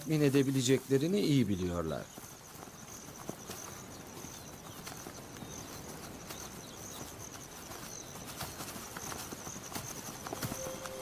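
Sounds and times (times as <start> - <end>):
high insect drone: 0.0 - 11.0
footfalls in grass: 0.4 - 11.0.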